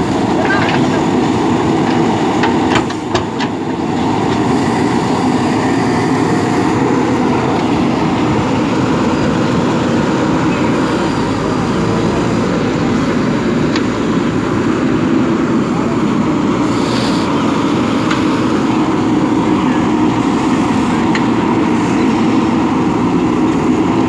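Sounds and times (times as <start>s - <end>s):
diesel engine under load: 0.0s - 24.0s.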